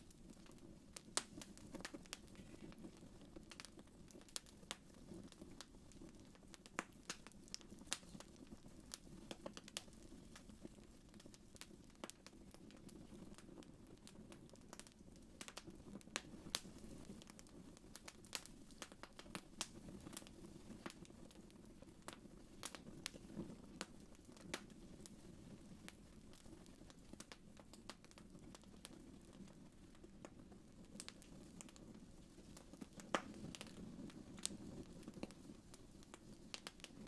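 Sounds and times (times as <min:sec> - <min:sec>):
fire crackling with pops: 0:00.0 - 0:37.0.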